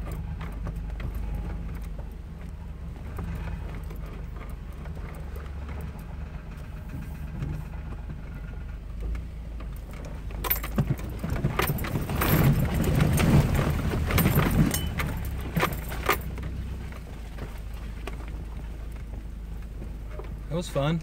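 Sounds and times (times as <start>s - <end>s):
rattling and clattering of truck body: 0.0s - 21.0s
truck engine running low: 0.0s - 21.0s.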